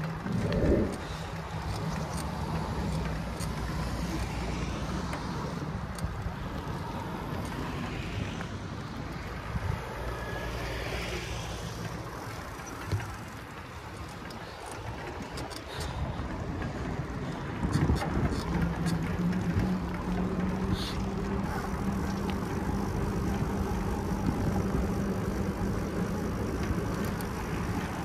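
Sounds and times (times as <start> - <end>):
outdoor background noise: 0.0 - 28.0
vehicle engine humming: 0.0 - 28.0.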